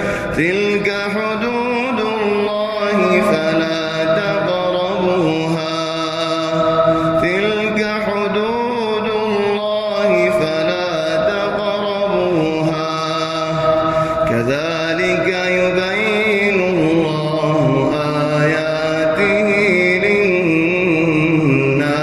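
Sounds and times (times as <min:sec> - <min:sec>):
man reciting melodic chant: 0:00.0 - 0:22.0.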